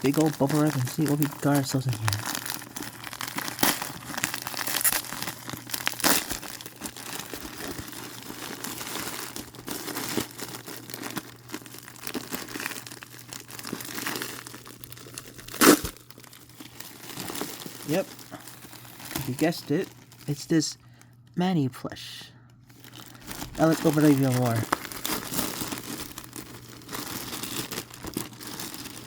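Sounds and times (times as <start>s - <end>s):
bubble wrap crinkling and crackling: 0.0s - 21.3s, 22.6s - 29.0s.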